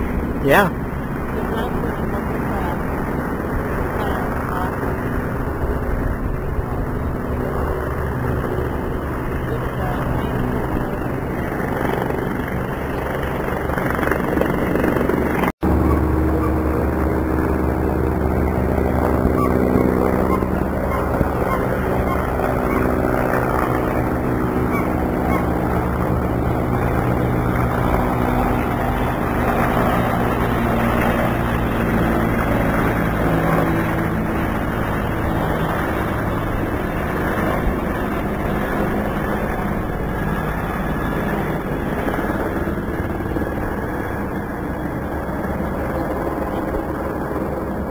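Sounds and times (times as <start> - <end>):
engine drone with held tones: 0.0 - 47.9
rushing rumble: 0.0 - 47.9.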